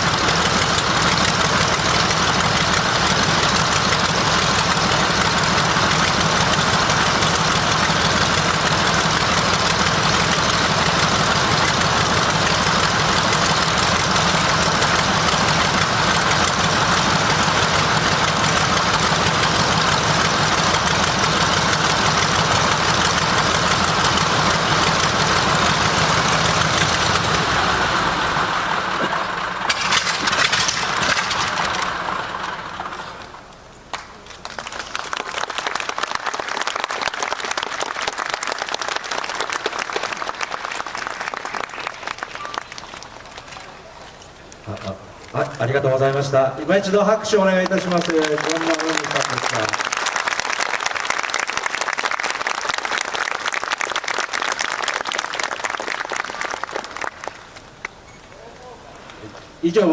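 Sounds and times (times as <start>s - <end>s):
radial aircraft engine running: 0.0s - 36.3s, 37.3s - 50.2s.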